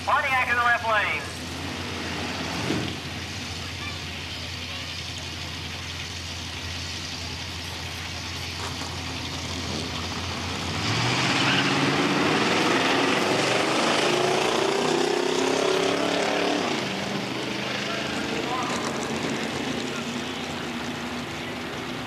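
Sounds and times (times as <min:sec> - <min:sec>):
cars accelerating at full throttle: 0:00.0 - 0:04.6, 0:05.2 - 0:22.0
car engines idling: 0:00.0 - 0:22.0.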